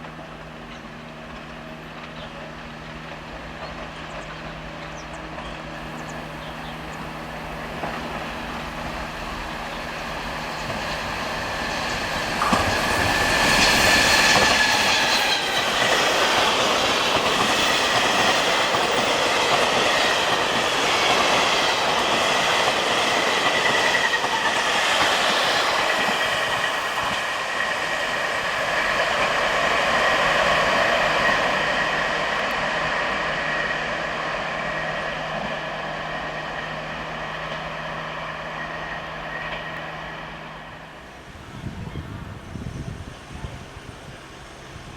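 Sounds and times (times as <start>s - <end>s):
train passing: 0.0s - 44.9s
wheels rumbling on rail: 0.0s - 44.9s.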